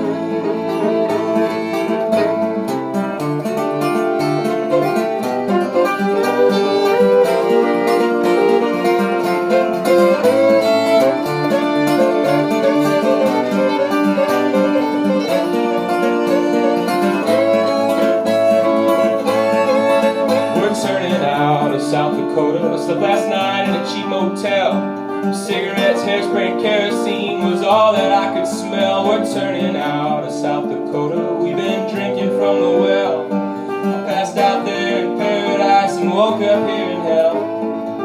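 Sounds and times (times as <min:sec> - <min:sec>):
fiddle melody: 0:00.0 - 0:38.0
strummed acoustic guitar: 0:00.0 - 0:38.0.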